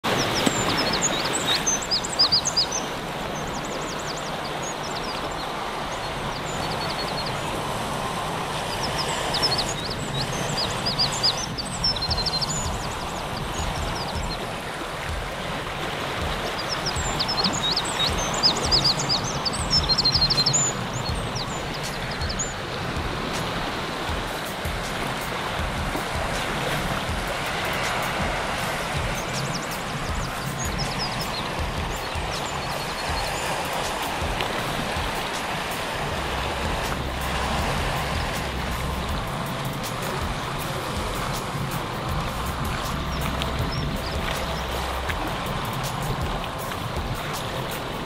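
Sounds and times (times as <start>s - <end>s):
shorebirds calling: 0.0s - 48.0s
surf: 0.0s - 48.0s.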